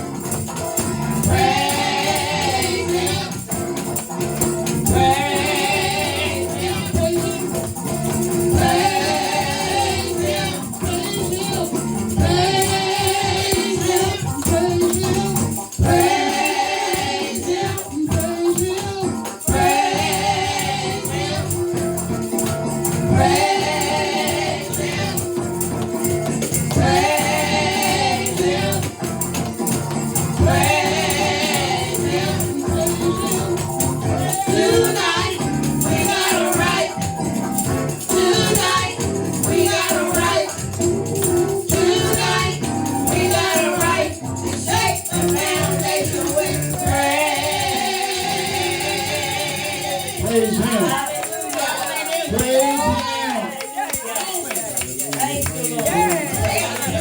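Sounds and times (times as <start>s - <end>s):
choir singing gospel: 0.0s - 57.0s
tambourine shaking: 0.0s - 57.0s.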